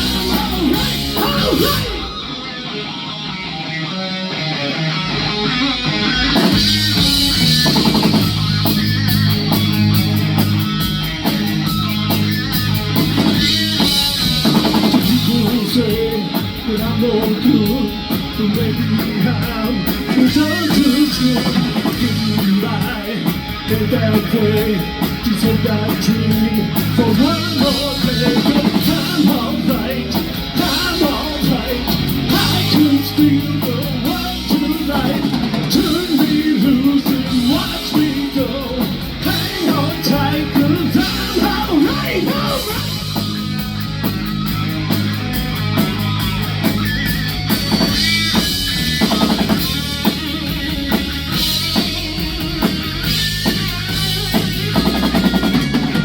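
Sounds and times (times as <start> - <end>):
drum kit: 0.0 - 56.0
guitars: 0.0 - 56.0.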